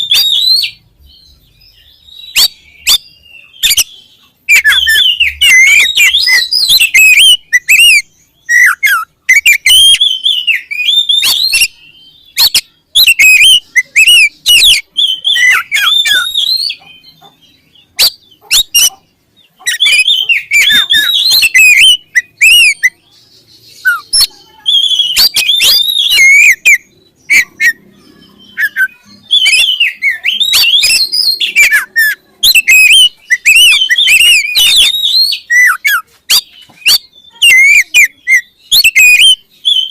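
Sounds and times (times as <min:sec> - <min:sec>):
bird singing whistled phrases: 0:00.0 - 0:19.0, 0:19.6 - 0:39.9.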